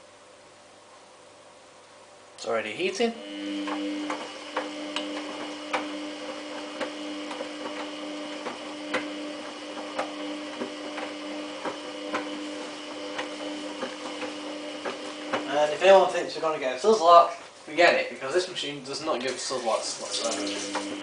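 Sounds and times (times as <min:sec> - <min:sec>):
washing machine motor hum: 0:02.4 - 0:18.0, 0:19.0 - 0:21.0.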